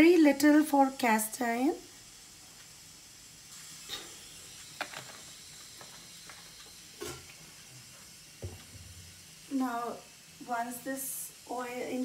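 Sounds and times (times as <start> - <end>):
gas burner hiss: 0.0 - 12.0.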